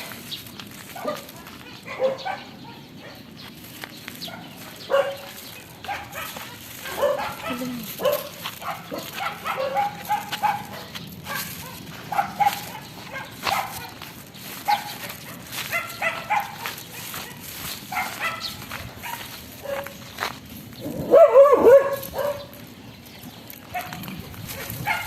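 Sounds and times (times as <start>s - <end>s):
dog barking: 0.9s - 3.3s, 4.2s - 20.0s, 20.8s - 22.6s, 23.7s - 25.0s.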